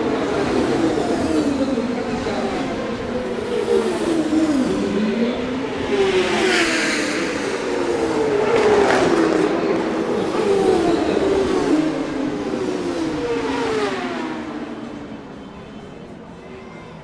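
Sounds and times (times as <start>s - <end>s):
racing motorcycles at high revs: 0.0s - 15.1s.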